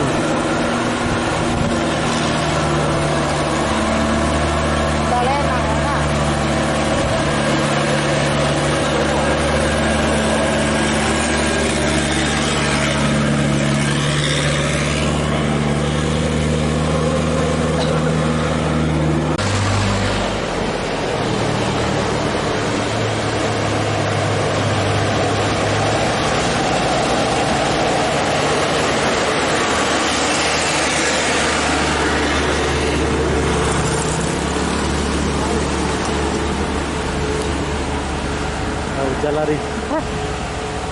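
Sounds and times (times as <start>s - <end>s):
diesel truck engine pulling hard: 0.0s - 40.9s.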